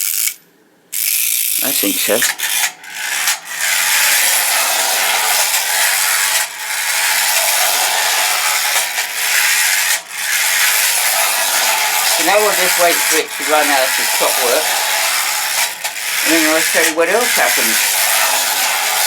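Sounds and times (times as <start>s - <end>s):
clockwork toy train whirring: 0.0s - 19.0s.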